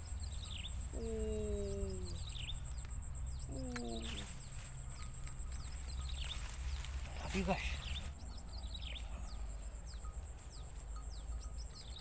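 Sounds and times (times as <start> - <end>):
birds chirping: 0.0 - 12.0
lower falling bird call: 0.4 - 10.7.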